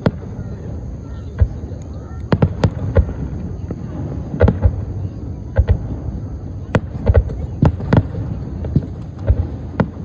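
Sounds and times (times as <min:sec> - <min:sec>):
fireworks bangs and thumps: 0:00.0 - 0:10.0.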